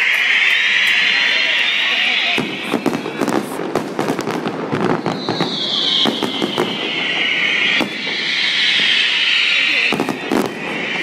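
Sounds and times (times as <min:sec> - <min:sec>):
firework bangs: 0:00.0 - 0:11.0
fireworks whistling: 0:00.0 - 0:11.0.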